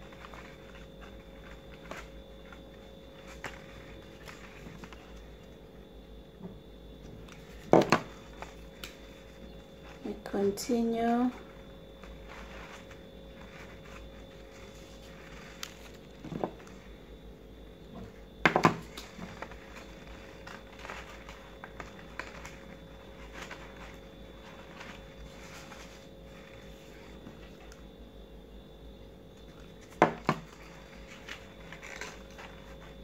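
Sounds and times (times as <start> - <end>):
paper rustling and crinkling: 0.0 - 5.8, 7.2 - 17.1, 18.0 - 27.9, 29.3 - 33.0.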